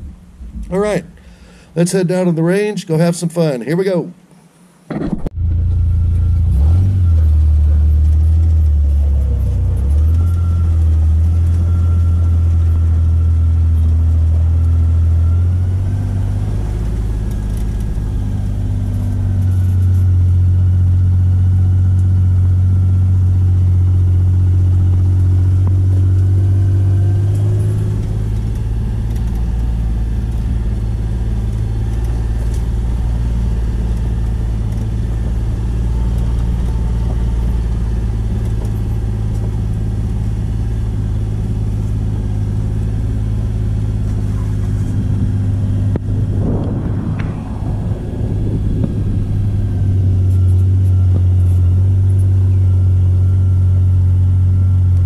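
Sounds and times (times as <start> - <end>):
utility vehicle engine running: 4.9 - 55.0.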